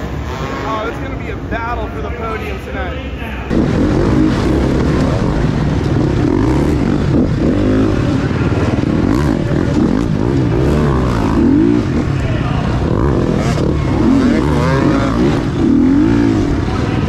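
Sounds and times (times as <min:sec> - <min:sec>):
dirt bike engine revving: 0:00.0 - 0:01.7, 0:03.5 - 0:17.0.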